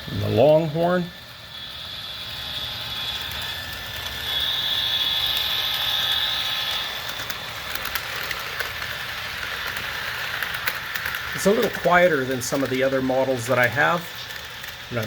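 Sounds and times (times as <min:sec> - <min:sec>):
model engine rumble: 0:00.0 - 0:15.0.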